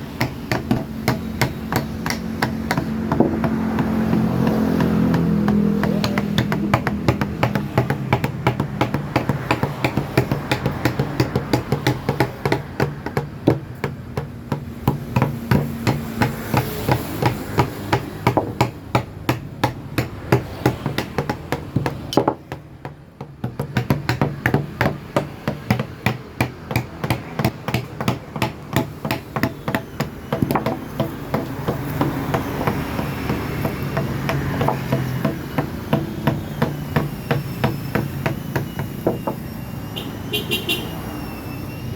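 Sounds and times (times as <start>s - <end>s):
mallet tapping chisel into wood: 0.1s - 39.4s.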